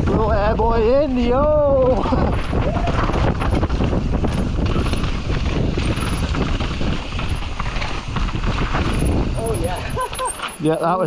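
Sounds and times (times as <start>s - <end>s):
wind on microphone: 0.0s - 10.6s
tyres rumbling over rocks: 1.0s - 11.0s
bike chain rattling: 1.6s - 11.0s.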